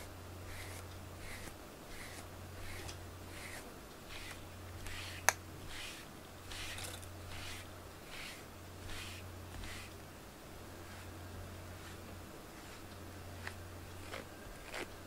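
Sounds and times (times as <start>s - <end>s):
brush swishing through fur: 0.0s - 10.0s, 10.8s - 14.9s.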